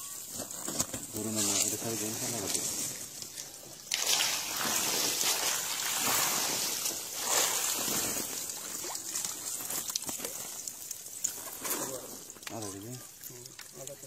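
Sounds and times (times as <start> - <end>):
small fish splashing in water: 1.0 - 14.0.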